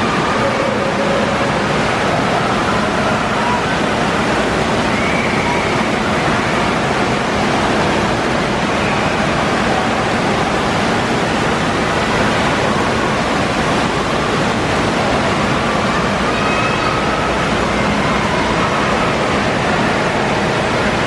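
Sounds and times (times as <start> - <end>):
fountain jets pouring into water: 0.0 - 21.0.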